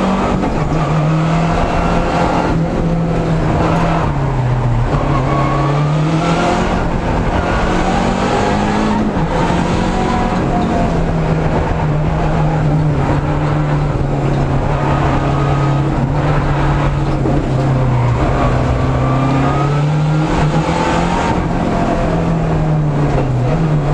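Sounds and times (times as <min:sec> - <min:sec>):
car engine droning inside cabin: 0:00.0 - 0:23.9.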